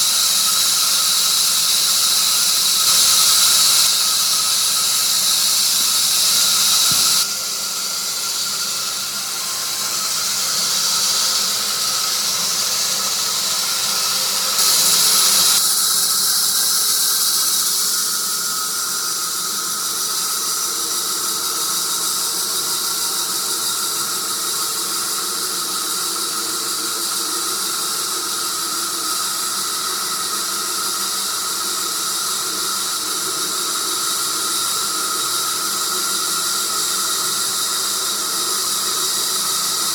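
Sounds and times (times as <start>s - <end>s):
saw blade whining through log: 0.0s - 39.9s.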